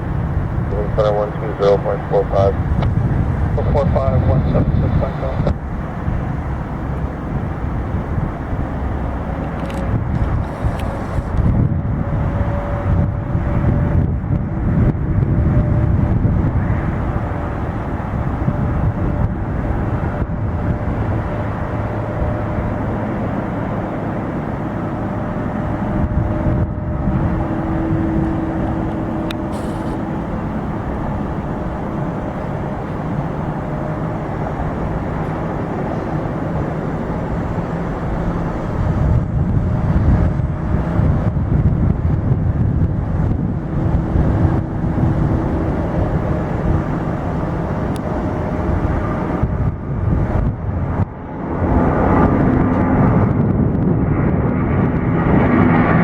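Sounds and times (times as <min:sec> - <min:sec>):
jet engines rumbling with whine: 0:00.0 - 0:56.0.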